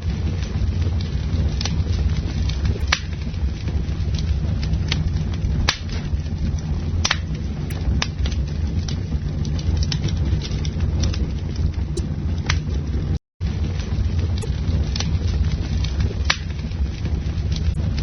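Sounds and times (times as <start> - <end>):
burning wood crackling and popping: 0.0 - 18.0
campfire flames rumbling: 0.0 - 18.0.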